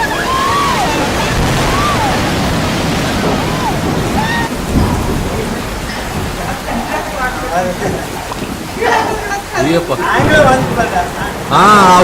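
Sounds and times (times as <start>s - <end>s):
loud steady rushing noise: 0.0s - 12.0s.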